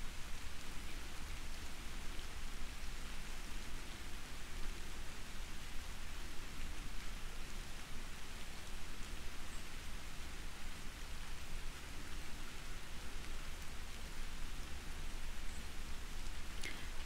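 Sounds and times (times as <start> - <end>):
soft steady rain: 0.0 - 17.0.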